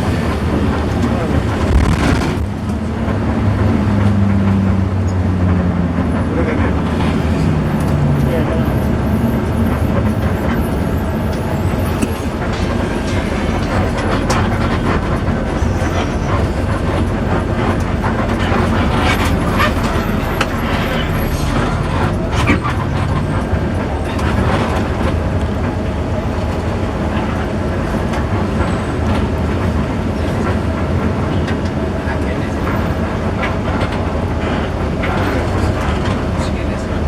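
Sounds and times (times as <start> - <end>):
bus cabin drone and rumble: 0.0 - 37.0.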